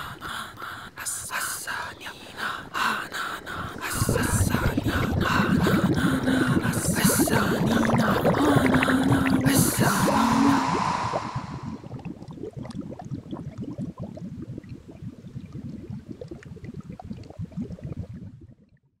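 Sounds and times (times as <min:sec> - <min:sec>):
cauldron bubbling: 0:02.5 - 0:18.5.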